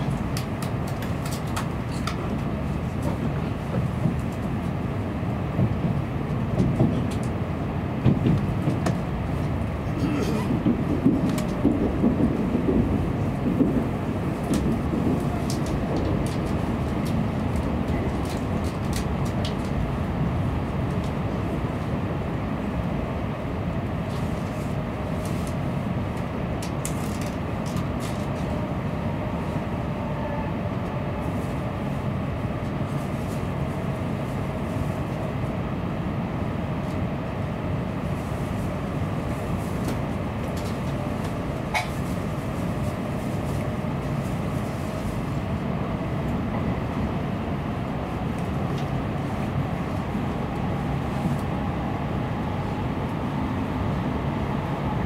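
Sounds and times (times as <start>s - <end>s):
train cabin rumble and hum: 0.0s - 55.0s.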